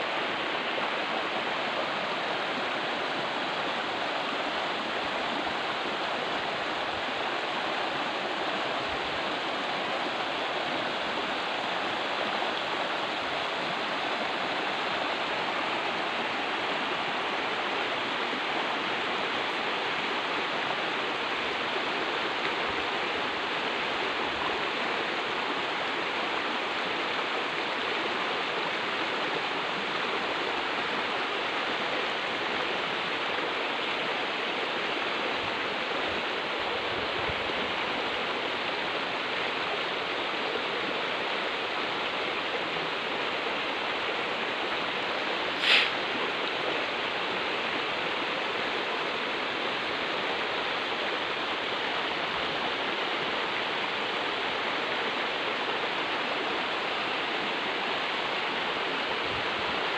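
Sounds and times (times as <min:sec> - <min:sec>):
river flowing over stones: 0:00.0 - 0:59.9.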